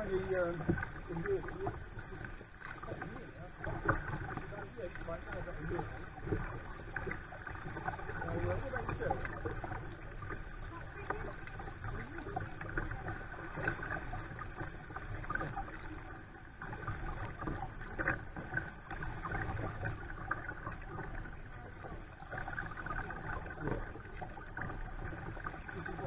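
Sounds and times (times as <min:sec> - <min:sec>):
paddle dipping in water: 0:00.0 - 0:26.0
water lapping against hull: 0:00.0 - 0:26.0.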